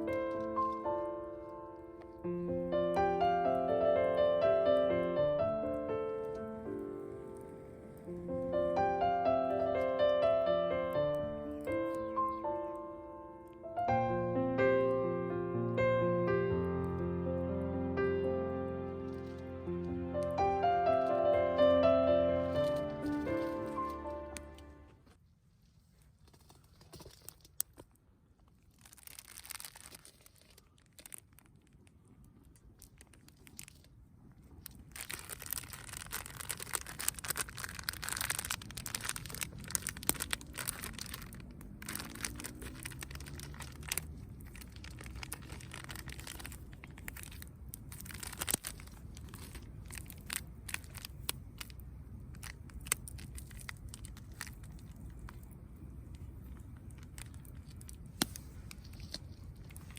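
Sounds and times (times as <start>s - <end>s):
crinkling and rustling: 0.0s - 14.0s, 18.8s - 59.9s.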